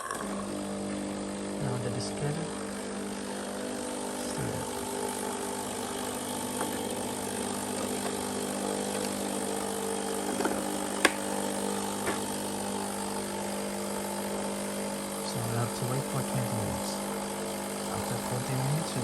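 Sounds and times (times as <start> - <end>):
espresso machine pump humming: 0.0 - 19.0.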